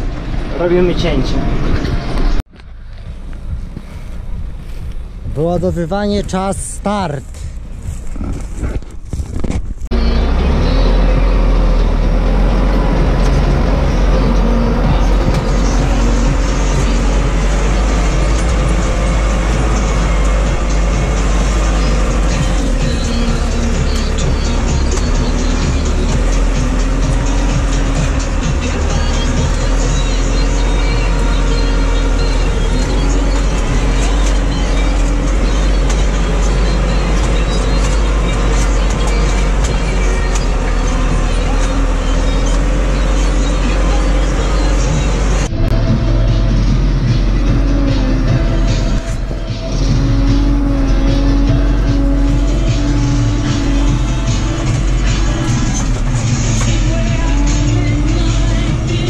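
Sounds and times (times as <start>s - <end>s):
tractor engine drone: 0.0s - 59.0s.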